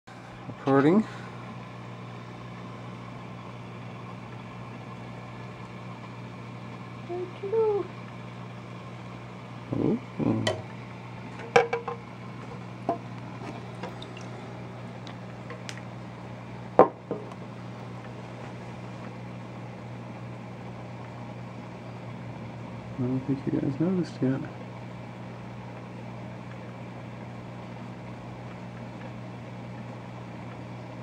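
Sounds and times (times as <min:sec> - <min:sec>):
aquarium equipment humming: 0:00.1 - 0:31.0.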